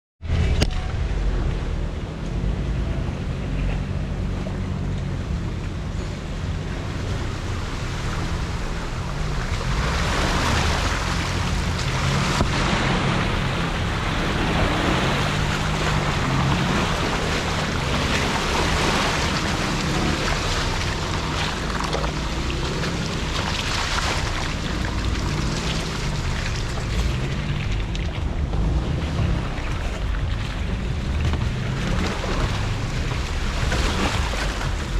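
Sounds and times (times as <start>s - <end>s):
car engine running: 0.2s - 34.9s
rushing noise: 0.2s - 34.9s.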